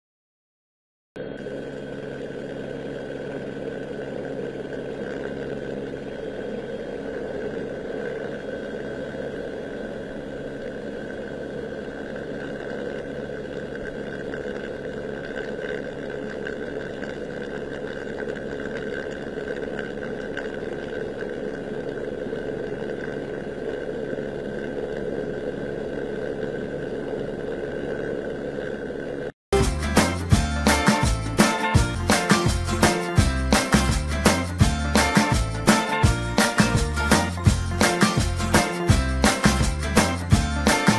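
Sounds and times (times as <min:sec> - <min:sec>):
engine drone with high whine: 0:01.2 - 0:40.9.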